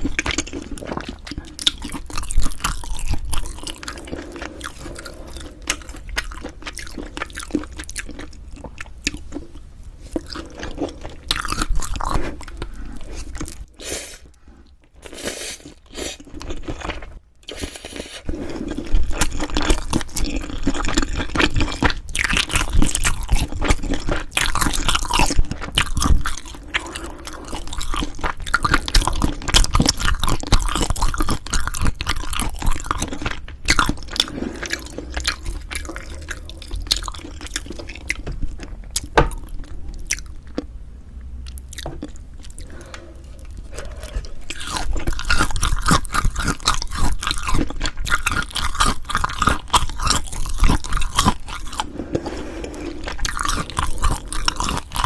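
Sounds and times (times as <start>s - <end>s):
chewing and biting food: 0.0s - 13.8s, 14.8s - 40.7s, 41.5s - 55.0s.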